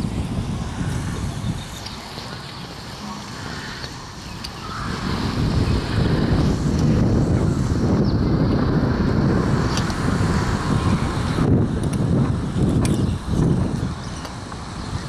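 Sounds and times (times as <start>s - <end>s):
open beach ambience: 0.0s - 15.0s
wind buffeting microphone: 0.0s - 15.0s.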